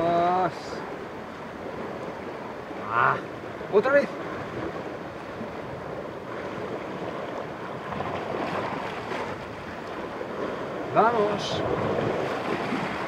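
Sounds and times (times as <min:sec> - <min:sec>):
surf washing against rocks: 0:00.0 - 0:13.0
wind on the microphone: 0:00.8 - 0:13.0.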